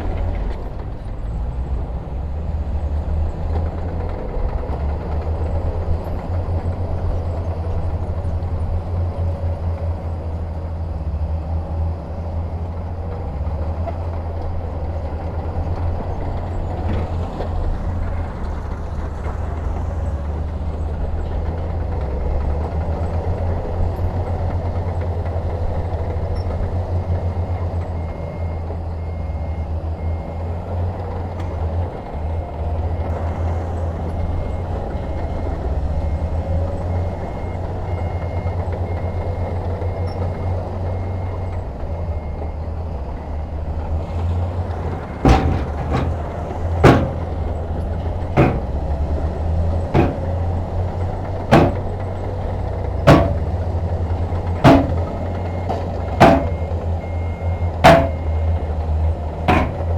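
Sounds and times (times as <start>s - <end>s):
heavy diesel machinery rumble: 0.0s - 59.9s.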